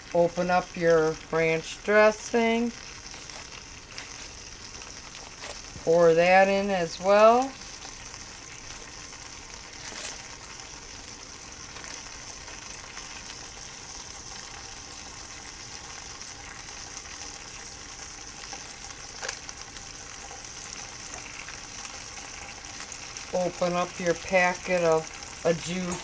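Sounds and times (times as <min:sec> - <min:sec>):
meat sizzling in a pot: 0:00.0 - 0:26.0.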